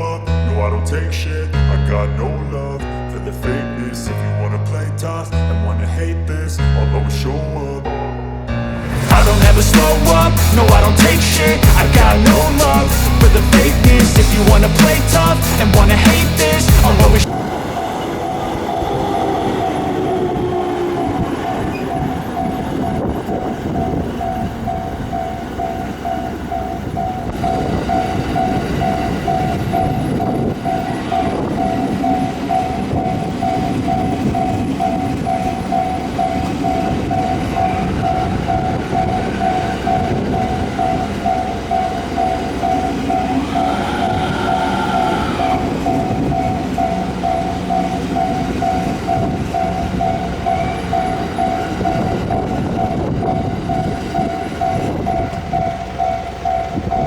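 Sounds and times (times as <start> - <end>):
train rumbling past: 6.3 - 57.0
level crossing alarm bell ringing: 9.1 - 57.0.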